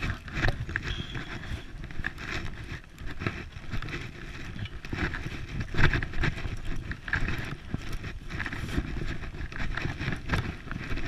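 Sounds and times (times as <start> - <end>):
scooter rattling over rough ground: 0.0 - 11.0
tyres pushing through twigs: 0.0 - 11.0.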